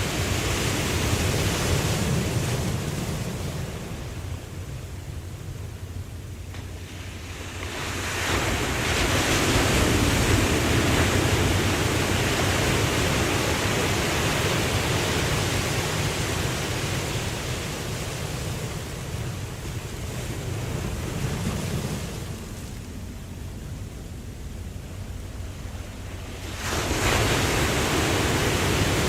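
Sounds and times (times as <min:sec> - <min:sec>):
ocean wave breaking on beach: 0:00.0 - 0:04.7, 0:06.6 - 0:23.8, 0:24.9 - 0:29.0
low rumble of sea: 0:00.0 - 0:29.0.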